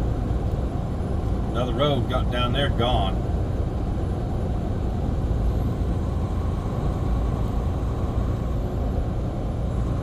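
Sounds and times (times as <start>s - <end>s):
road rumble: 0.0s - 10.0s
truck engine drone: 0.0s - 10.0s.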